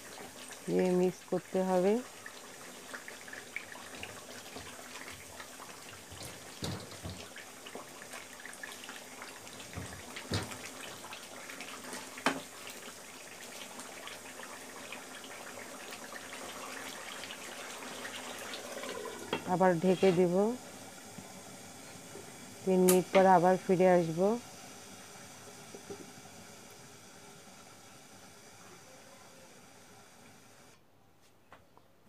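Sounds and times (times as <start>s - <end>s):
food sizzling in oil: 0.0s - 30.7s.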